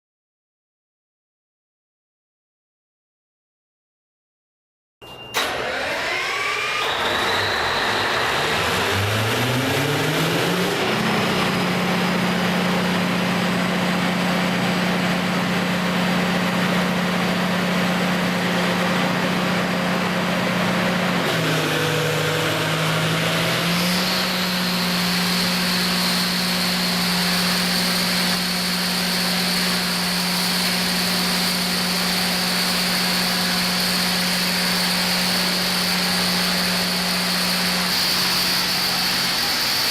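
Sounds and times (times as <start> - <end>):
diesel generator running: 5.3 - 39.9
high steady whine: 5.3 - 39.9.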